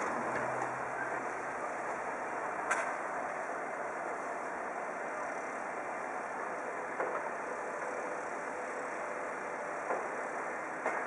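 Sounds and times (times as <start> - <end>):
distant fire engines idling: 0.0 - 11.0.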